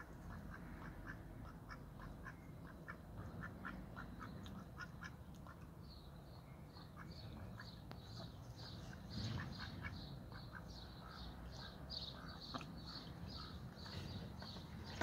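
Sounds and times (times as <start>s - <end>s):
ducks quacking: 0.0s - 5.6s, 7.0s - 15.0s.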